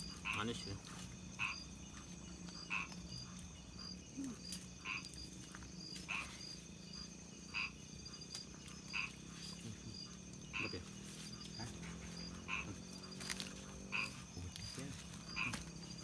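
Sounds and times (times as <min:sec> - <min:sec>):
frog croaking: 0:00.0 - 0:16.0
high insect trill: 0:00.0 - 0:16.0.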